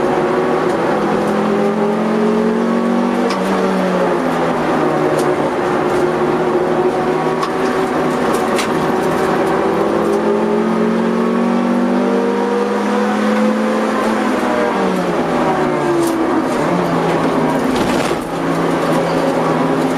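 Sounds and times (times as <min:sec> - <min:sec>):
car engine at high revs: 0:00.0 - 0:19.9.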